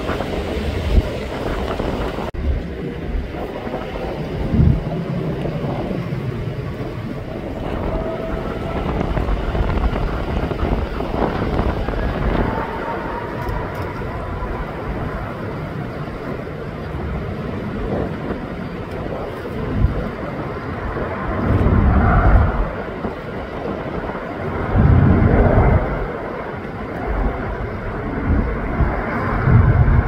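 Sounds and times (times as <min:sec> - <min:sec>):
distant jet engines rumbling: 0:00.0 - 0:30.0
wind buffeting microphone: 0:00.0 - 0:30.0.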